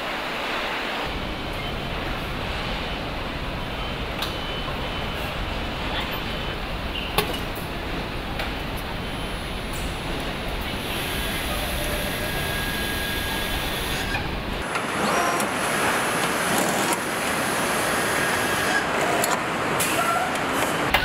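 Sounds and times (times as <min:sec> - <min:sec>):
machinery hum and hiss: 0:00.0 - 0:21.0.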